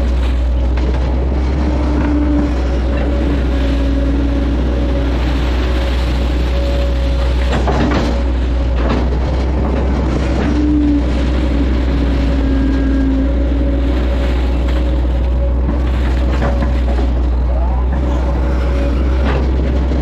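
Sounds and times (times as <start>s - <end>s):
excavator diesel engine running: 0.0s - 20.0s
hydraulic whine: 0.0s - 20.0s.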